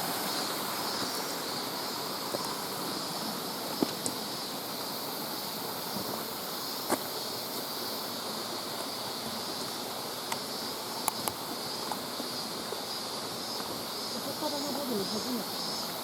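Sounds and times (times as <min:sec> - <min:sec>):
stream rushing water: 0:00.0 - 0:16.0.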